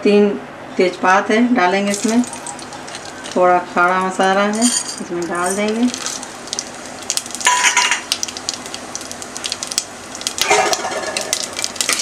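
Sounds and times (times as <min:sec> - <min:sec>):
soft oil sizzle: 0:01.8 - 0:12.0
spices crackling in hot oil: 0:01.8 - 0:12.0.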